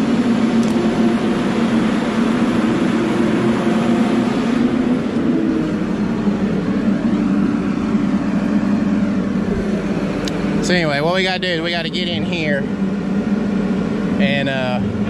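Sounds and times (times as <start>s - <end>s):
even rushing noise: 0.0s - 15.0s
vehicle engine droning: 0.0s - 15.0s.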